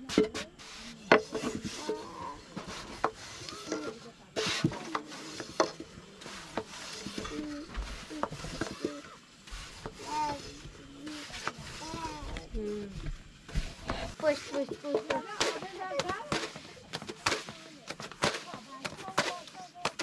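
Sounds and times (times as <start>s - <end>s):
rolling pin rolling dough: 0.0s - 20.0s
scraping and rubbing: 0.0s - 20.0s.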